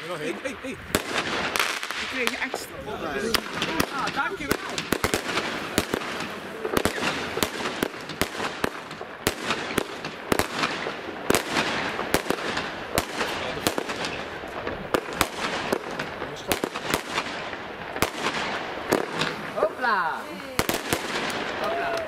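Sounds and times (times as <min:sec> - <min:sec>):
fireworks hiss: 0:00.0 - 0:21.8
fireworks bangs and pops: 0:00.0 - 0:22.0.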